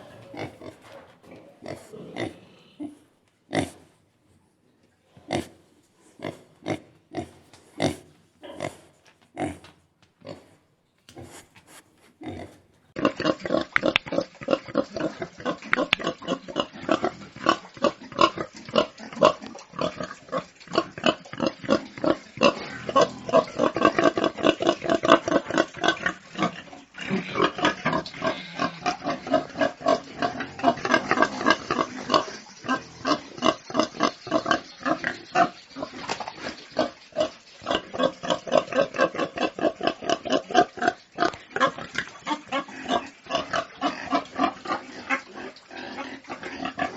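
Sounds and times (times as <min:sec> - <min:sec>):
pigs grunting: 0:00.0 - 0:04.0, 0:05.2 - 0:46.9.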